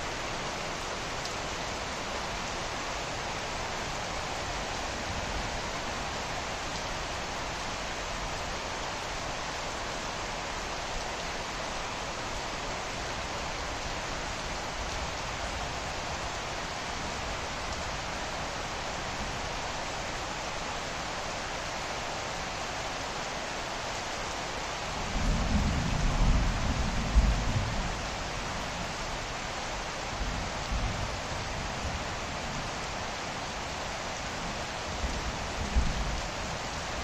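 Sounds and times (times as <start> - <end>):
rain falling on leaves: 0.0 - 37.0.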